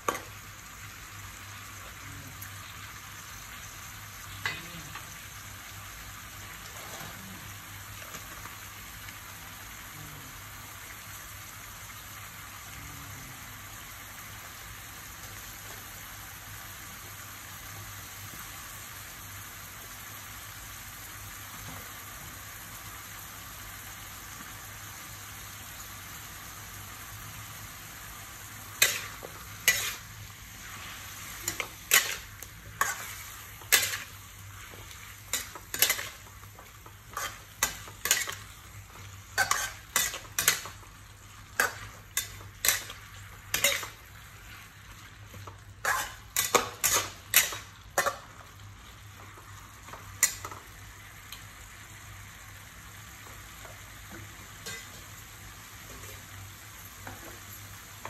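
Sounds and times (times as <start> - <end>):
vegetables sizzling in a wok: 0.0 - 58.0.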